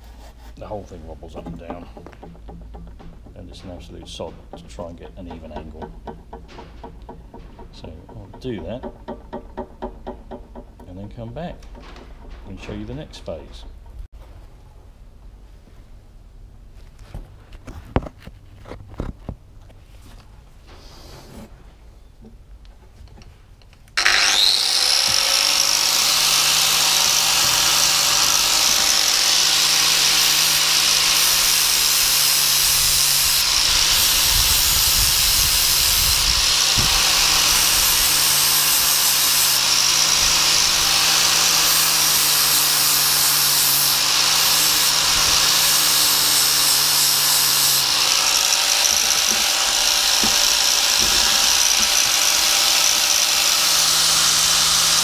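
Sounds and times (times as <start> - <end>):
angle grinder grinding metal: 0.7 - 14.1, 24.0 - 55.0.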